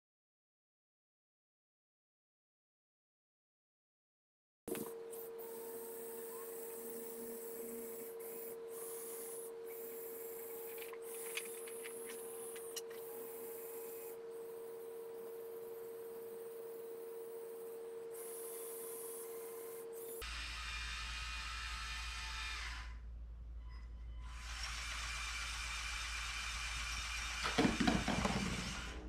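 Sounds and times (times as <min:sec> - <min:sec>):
small electric motors humming: 0:04.7 - 0:29.0.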